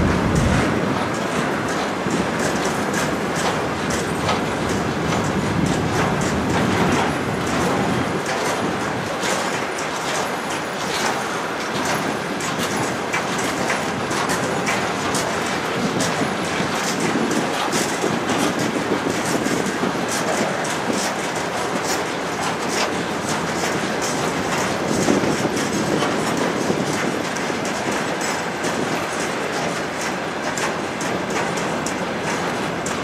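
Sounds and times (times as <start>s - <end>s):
train wheels clacking: 0.0s - 33.0s.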